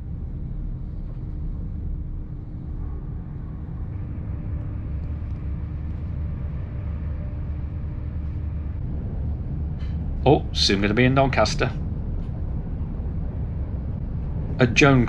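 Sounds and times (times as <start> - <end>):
steady hum: 0.0 - 15.0
train rumbling: 0.0 - 15.0.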